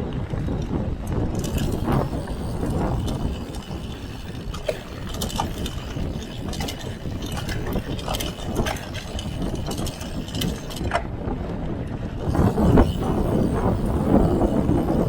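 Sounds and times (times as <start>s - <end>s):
bike clicks and rattles: 0.0s - 15.0s
tyres rumbling on trail: 0.0s - 15.0s
wind on microphone: 0.0s - 15.0s.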